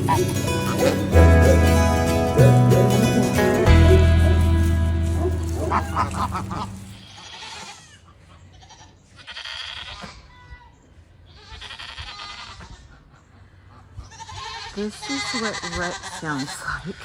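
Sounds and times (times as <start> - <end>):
goats bleating: 0.0 - 10.1, 11.3 - 12.8, 14.1 - 17.0.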